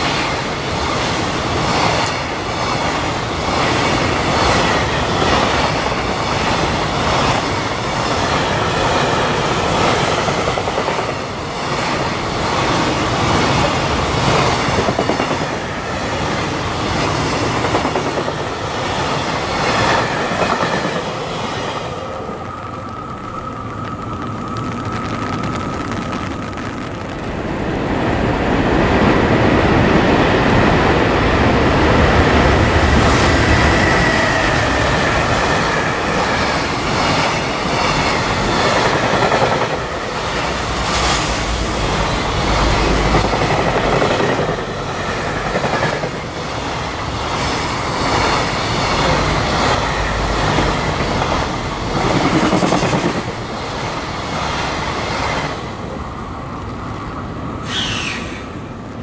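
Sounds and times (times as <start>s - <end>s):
freight train rumbling: 0.0s - 59.0s
high whine of locomotive: 0.0s - 59.0s.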